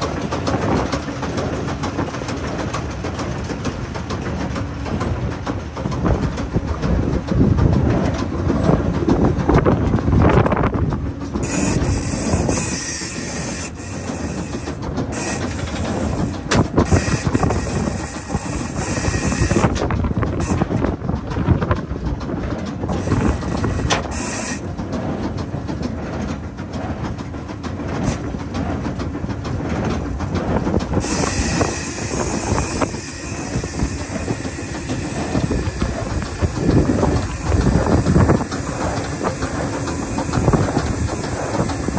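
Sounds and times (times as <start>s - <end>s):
baler clattering and knocking: 0.0s - 12.6s, 14.1s - 41.9s.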